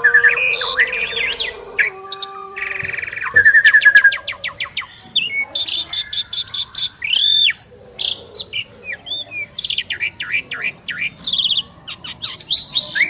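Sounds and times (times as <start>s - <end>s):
starlings singing: 0.0s - 13.0s.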